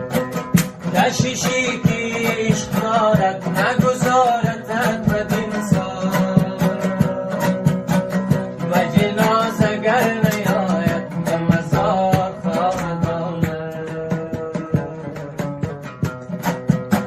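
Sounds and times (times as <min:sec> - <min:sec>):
plucked long-necked lute folk music: 0:00.0 - 0:17.0.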